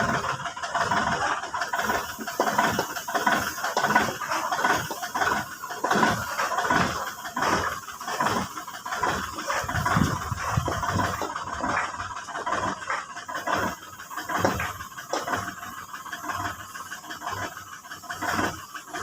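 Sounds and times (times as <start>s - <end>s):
backhoe engine running: 0.0s - 19.0s
mechanical clanks and rattles: 0.0s - 19.0s.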